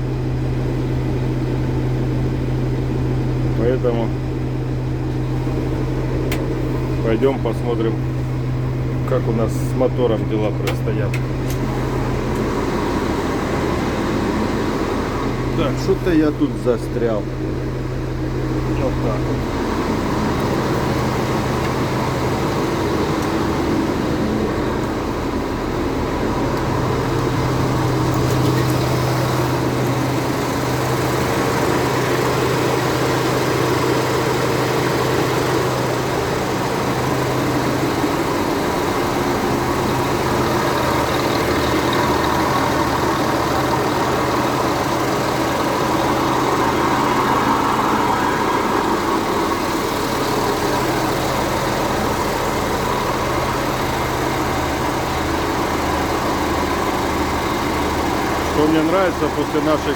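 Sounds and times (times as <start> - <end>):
diesel tractor engine idling: 0.0 - 59.9.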